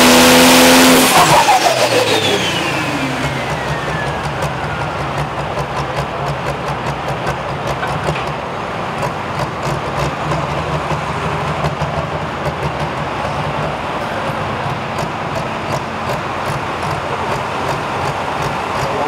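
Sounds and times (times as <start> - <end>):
diesel engine idling: 0.1 - 19.0.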